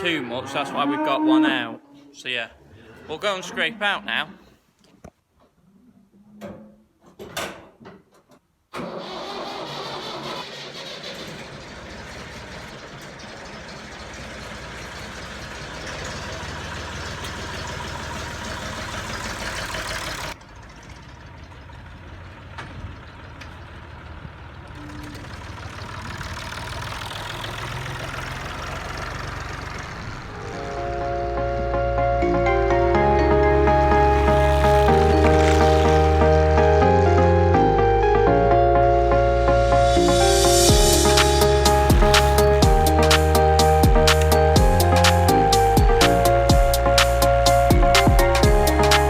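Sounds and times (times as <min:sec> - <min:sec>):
tractor engine running: 0:08.8 - 0:49.0.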